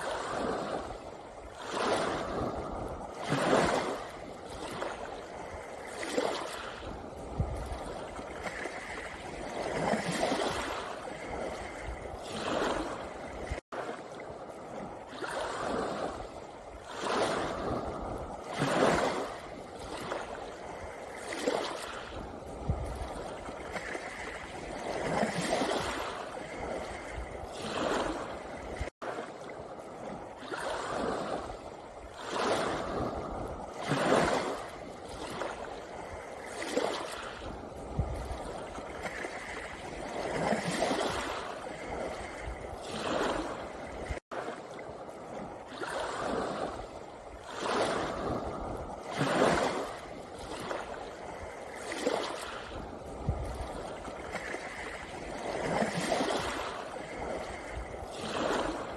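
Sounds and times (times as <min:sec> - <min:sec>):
waves washing on pebble shore: 0:00.0 - 0:58.9.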